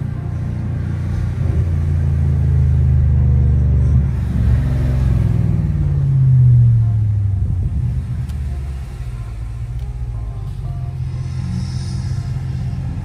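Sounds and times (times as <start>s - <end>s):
car engine drone from inside: 0.0s - 13.0s.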